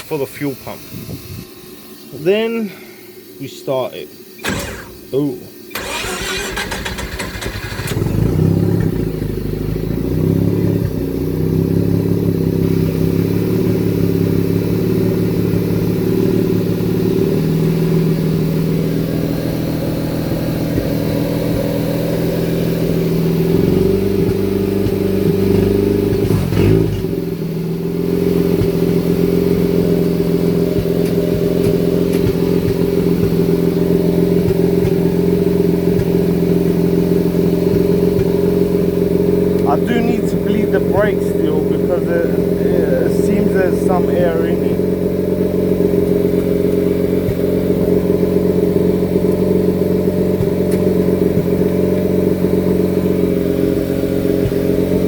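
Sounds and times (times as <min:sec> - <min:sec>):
car engine idling unevenly: 0:04.4 - 0:55.0.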